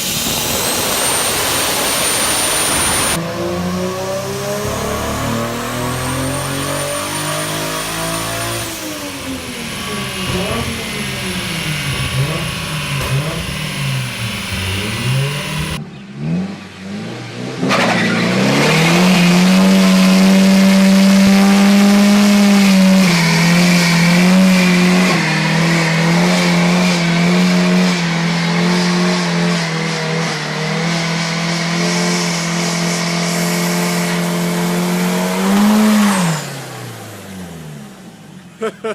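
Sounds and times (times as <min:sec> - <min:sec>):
car engine at high revs: 0:00.0 - 0:38.7.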